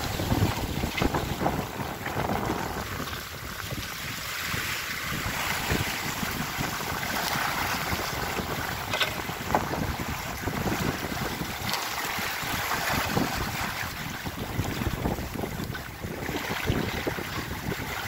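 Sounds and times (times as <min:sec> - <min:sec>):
water rushing along hull: 0:00.0 - 0:18.0
wind gusting across microphone: 0:00.0 - 0:18.0.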